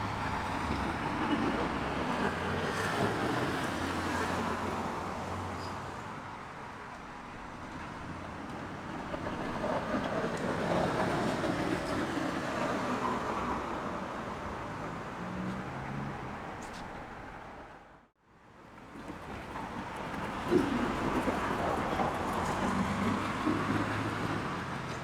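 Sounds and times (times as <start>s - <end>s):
vehicles passing: 0.0s - 18.1s, 18.9s - 25.0s.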